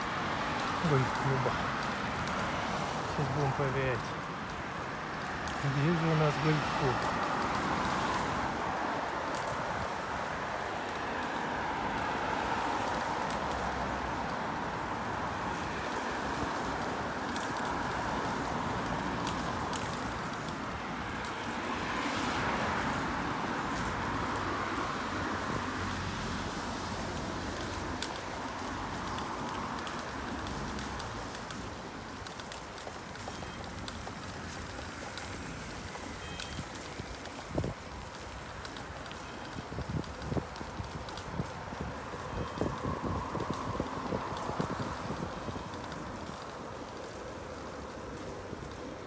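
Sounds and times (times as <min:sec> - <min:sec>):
road traffic noise: 0:00.0 - 0:49.0.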